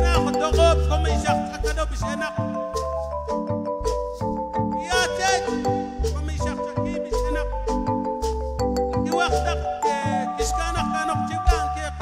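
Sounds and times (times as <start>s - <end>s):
electric bass: 0.0s - 9.8s
congas: 0.0s - 12.0s
electronic keyboard: 0.0s - 12.0s.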